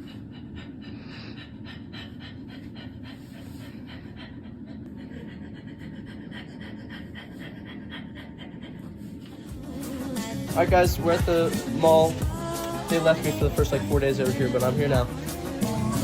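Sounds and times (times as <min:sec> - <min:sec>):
rapid rhythmic panting: 0:00.0 - 0:16.0
steady low hum: 0:00.0 - 0:16.0.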